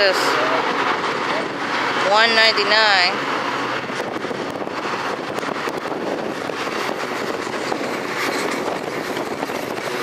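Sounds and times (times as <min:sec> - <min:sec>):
train wheels on rails: 0:00.0 - 0:10.0.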